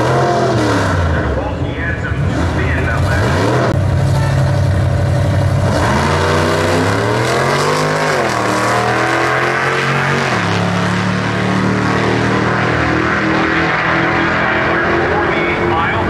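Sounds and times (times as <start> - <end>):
drag car engines accelerating: 0.0 - 16.0.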